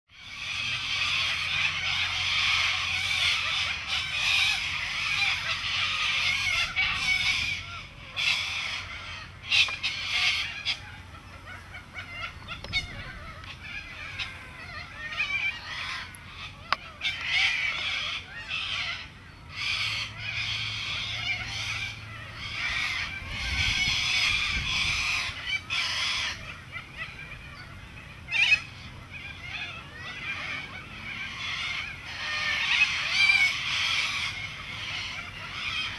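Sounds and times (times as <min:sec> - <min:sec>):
chorus of birds calling: 0:00.1 - 0:35.9.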